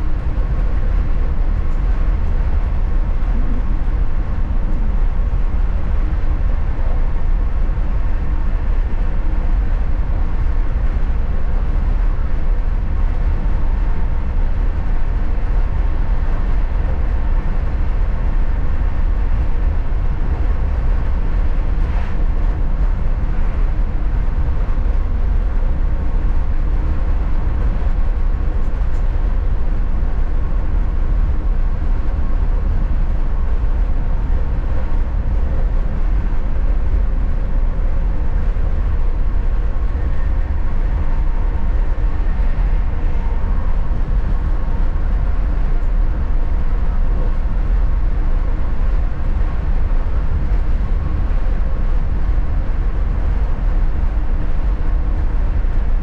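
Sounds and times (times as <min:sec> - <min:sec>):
train interior rumble: 0:00.0 - 0:56.0.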